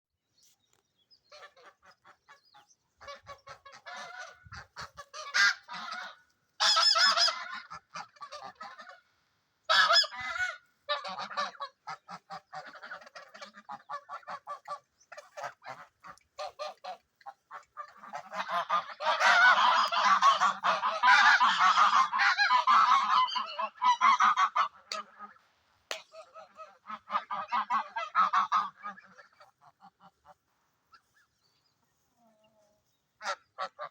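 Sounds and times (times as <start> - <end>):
geese honking: 1.3 - 33.9.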